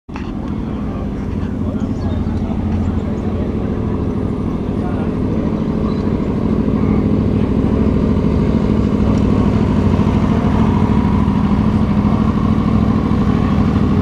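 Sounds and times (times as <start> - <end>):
motorcycle engine idling: 0.1 - 14.0.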